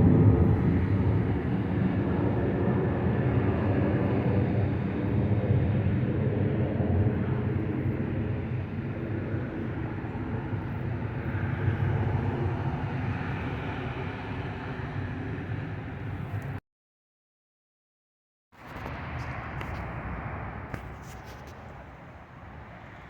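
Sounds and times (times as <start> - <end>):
jet engine rumble: 0.0 - 16.6, 18.6 - 23.0.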